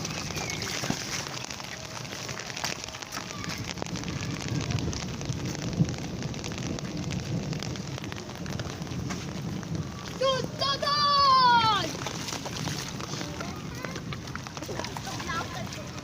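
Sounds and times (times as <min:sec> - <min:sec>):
rain on hard surfaces: 0:00.0 - 0:16.0.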